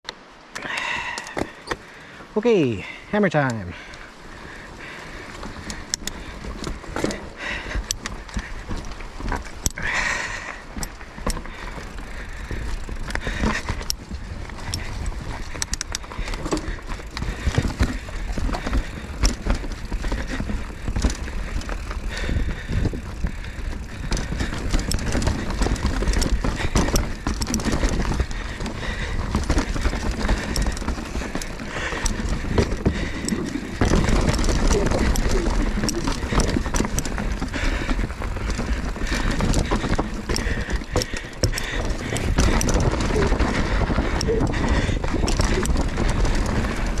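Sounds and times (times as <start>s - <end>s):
bike tyres on dirt: 0.2s - 47.0s
bike chain and frame clattering: 4.2s - 47.0s.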